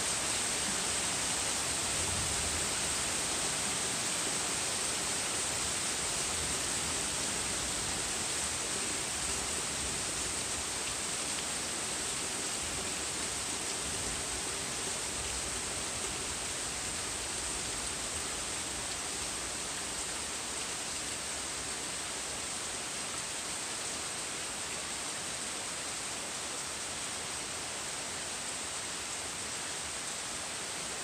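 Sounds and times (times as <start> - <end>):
heavy rain on trees and grass: 0.0 - 31.0.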